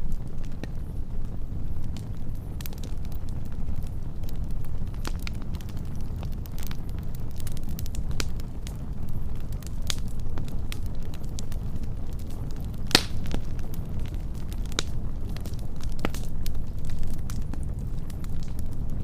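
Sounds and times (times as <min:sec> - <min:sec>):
fire low rumble: 0:00.0 - 0:19.0
wood fire crackling and popping: 0:00.0 - 0:19.0.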